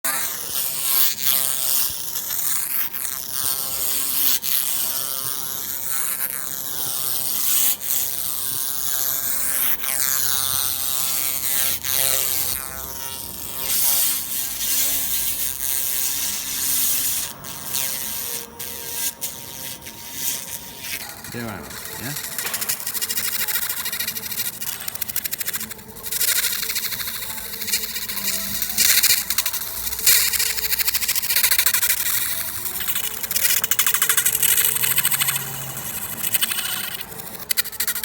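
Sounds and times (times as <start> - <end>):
laser cleaner buzzing hiss: 0.1 - 38.0.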